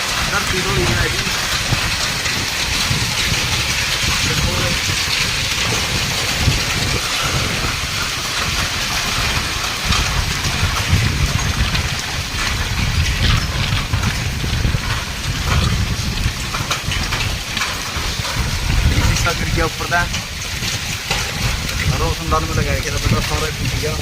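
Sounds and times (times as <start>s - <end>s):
hailstones clicking: 0.0s - 24.0s
heavy rain and hail: 0.0s - 24.0s
wind buffeting microphone: 0.0s - 24.0s.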